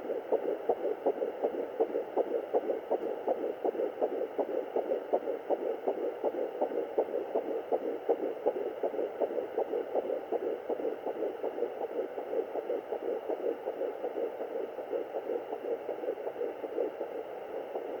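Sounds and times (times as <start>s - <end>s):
fetal heartbeat whooshing: 0.0s - 18.0s.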